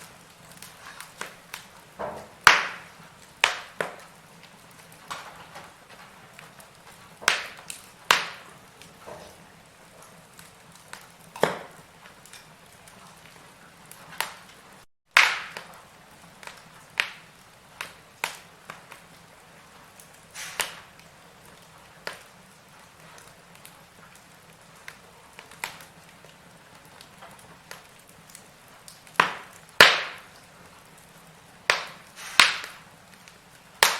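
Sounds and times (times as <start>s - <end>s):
firewood crackling and popping: 0.0s - 33.9s
low steady fire hiss: 0.0s - 33.9s.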